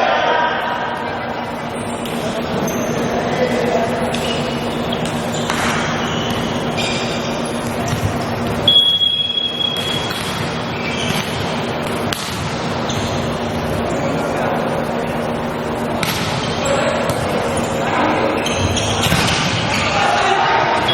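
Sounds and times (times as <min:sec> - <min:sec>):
crowd noise: 0:00.0 - 0:20.9
sneakers squeaking on court: 0:00.9 - 0:20.1.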